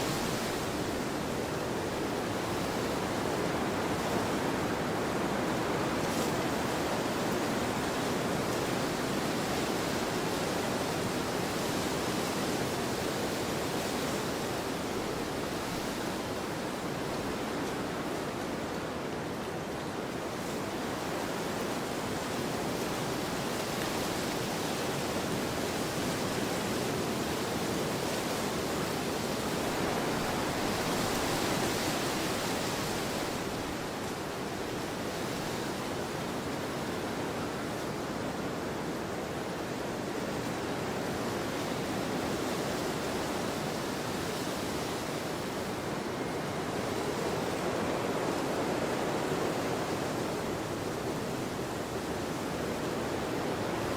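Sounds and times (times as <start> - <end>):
wind blowing across a field: 0.0 - 53.9.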